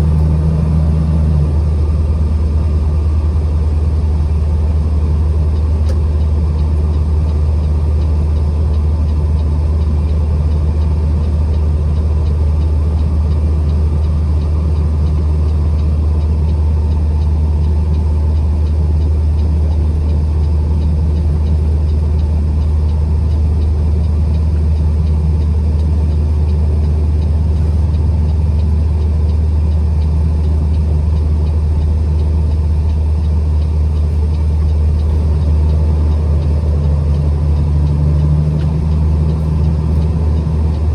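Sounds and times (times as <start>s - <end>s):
truck engine droning: 0.0s - 40.9s.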